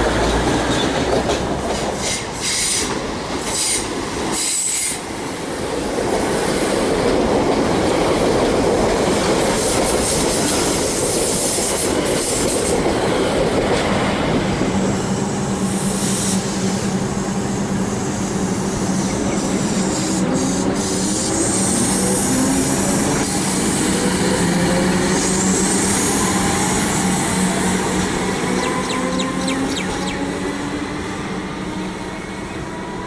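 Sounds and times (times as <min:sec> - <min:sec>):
steady train hum: 0:00.0 - 0:33.0
train wheels rumbling on rails: 0:00.0 - 0:33.0.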